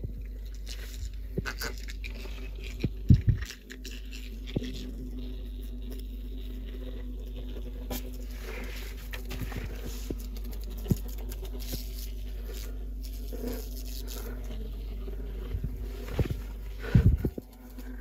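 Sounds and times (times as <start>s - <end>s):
light scraping and crackling: 0.0s - 18.0s
steady low hum: 0.0s - 18.0s.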